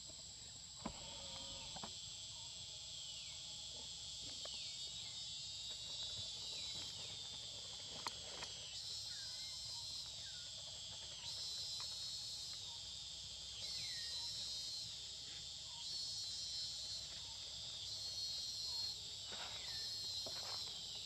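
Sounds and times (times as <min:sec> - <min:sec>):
chorus of forest insects: 0:00.0 - 0:21.0.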